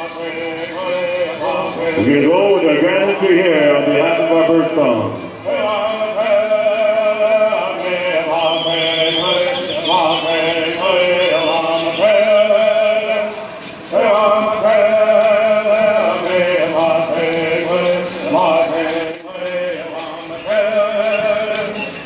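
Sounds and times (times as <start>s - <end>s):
men singing chanted phrases: 0.0s - 22.0s
rattles shaken in a beat: 0.0s - 22.0s.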